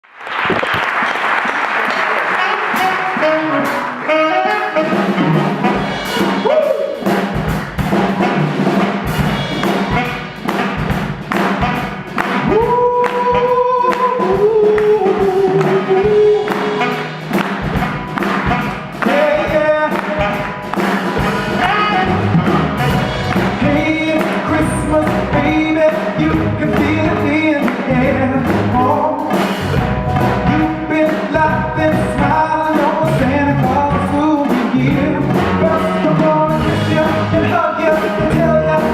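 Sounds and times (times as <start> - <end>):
live band playing christmas song: 0.5 - 38.9.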